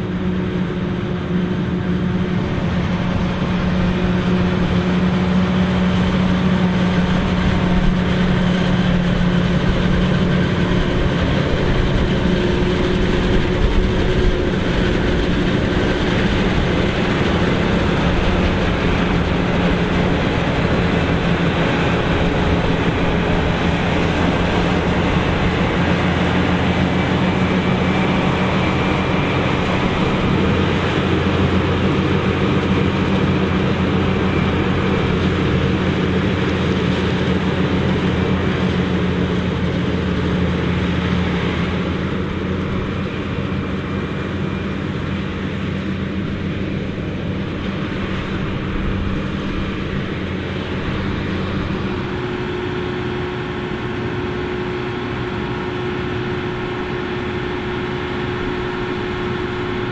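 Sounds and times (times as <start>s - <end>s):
tractor engine running: 0.0s - 59.9s
forage harvester chopping corn: 2.3s - 59.9s.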